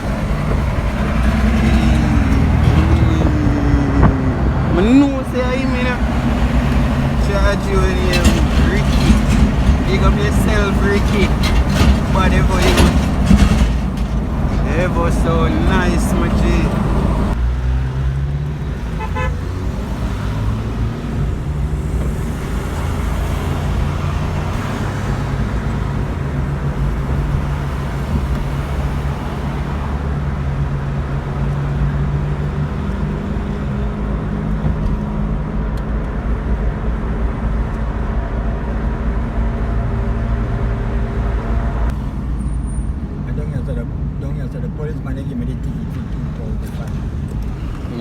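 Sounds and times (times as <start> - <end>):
car engine hum and road noise: 0.0 - 48.0.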